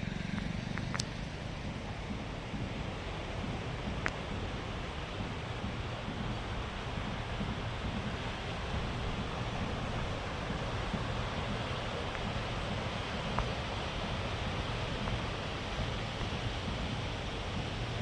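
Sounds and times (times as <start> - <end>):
wind rumbling on microphone: 0.0 - 18.0
sea surf washing onto beach: 0.2 - 18.0.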